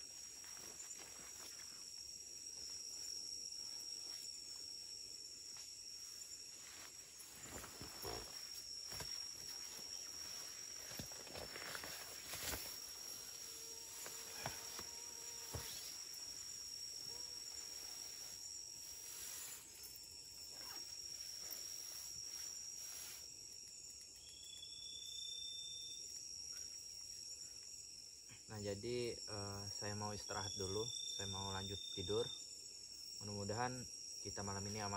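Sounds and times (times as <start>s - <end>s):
insects trilling: 0.0s - 34.9s
lower insect call: 0.0s - 34.9s.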